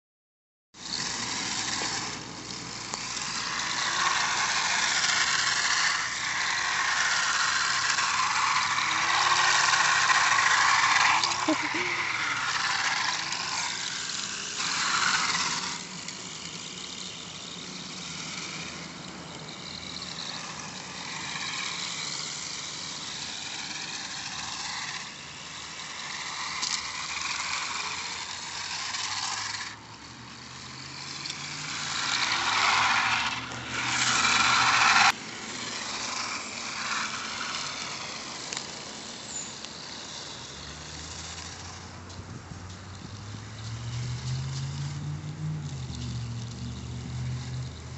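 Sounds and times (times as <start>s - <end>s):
road traffic passing: 0.8s - 47.9s.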